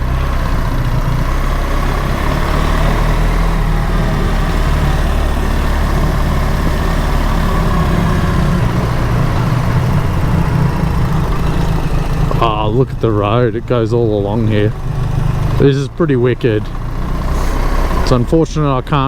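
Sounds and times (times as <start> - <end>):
motorcycle engine running: 0.0 - 19.0
road noise: 0.0 - 19.0.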